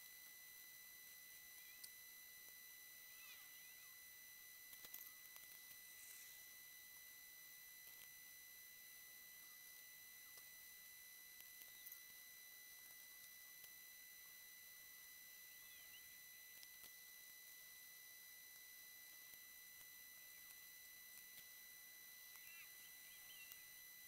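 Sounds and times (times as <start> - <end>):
high-pitched electronic whine: 0.0 - 24.0.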